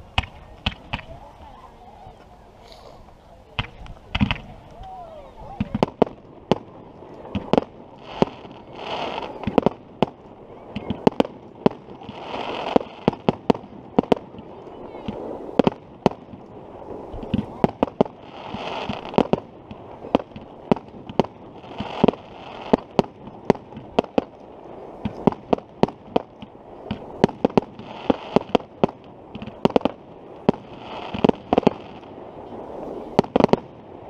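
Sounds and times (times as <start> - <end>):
fireworks rumble and crackle: 0.0 - 34.0
firework shells bursting: 2.6 - 4.8, 5.6 - 32.0.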